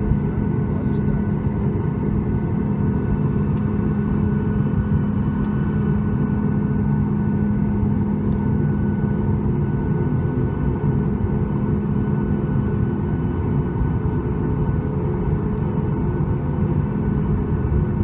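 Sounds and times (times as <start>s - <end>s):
constant cabin hum: 0.0s - 18.0s
jet engine and airflow rumble: 0.0s - 18.0s.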